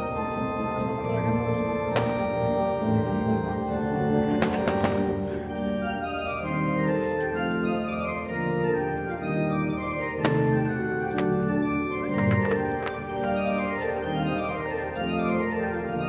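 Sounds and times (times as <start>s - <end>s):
slow music of held chords: 0.0s - 16.0s.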